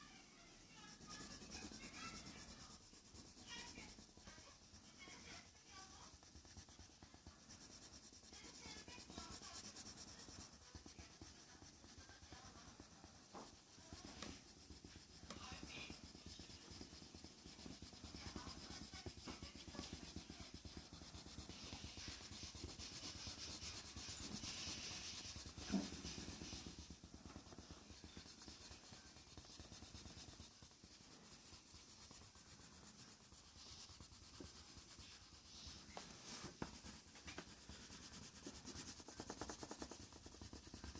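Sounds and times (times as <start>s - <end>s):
pencil scratching on paper: 0.0s - 40.9s.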